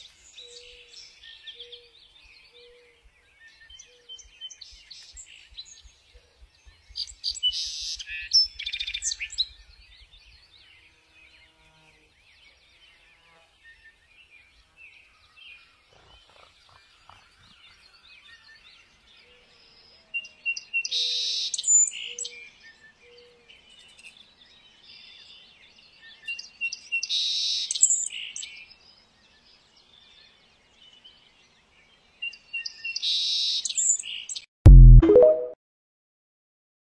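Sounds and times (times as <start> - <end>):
songbird singing with buzzy trill: 0.2 - 30.3.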